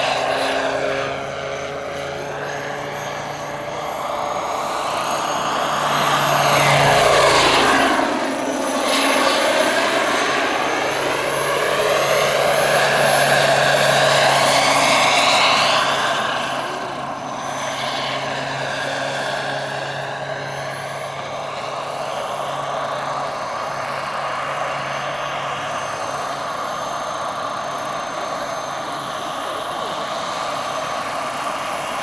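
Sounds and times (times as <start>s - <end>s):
helicopter rotor noise: 0.0s - 32.0s
turbine whine: 0.0s - 32.0s.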